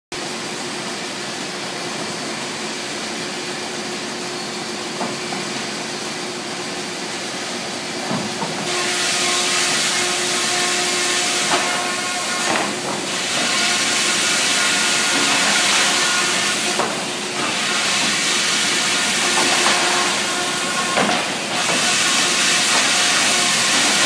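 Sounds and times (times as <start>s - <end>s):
higher machine hum: 0.2s - 24.0s
machinery hiss: 0.2s - 24.0s
steady machine hum: 0.2s - 24.0s.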